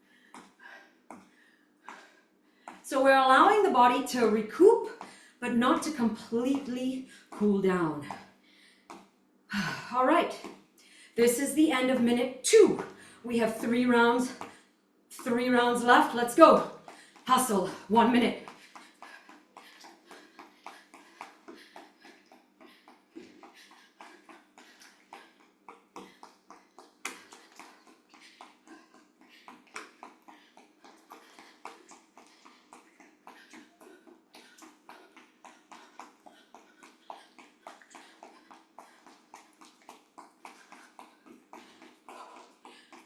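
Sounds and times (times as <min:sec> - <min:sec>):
light running footfalls on floor: 0:00.0 - 0:09.2, 0:12.6 - 0:43.0.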